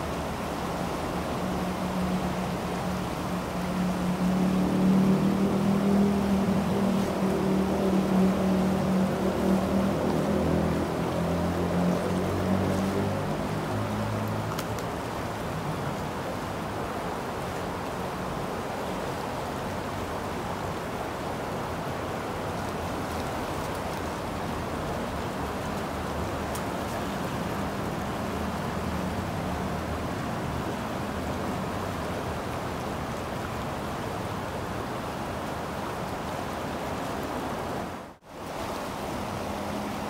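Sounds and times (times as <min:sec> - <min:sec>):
river rushing: 0:00.0 - 0:40.0.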